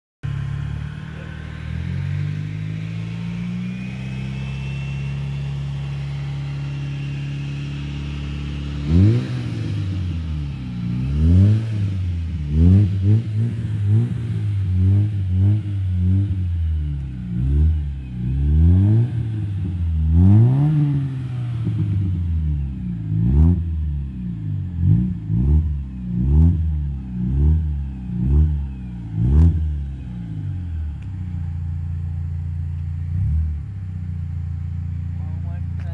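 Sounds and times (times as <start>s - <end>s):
car engine idling and revving: 0.2s - 35.9s.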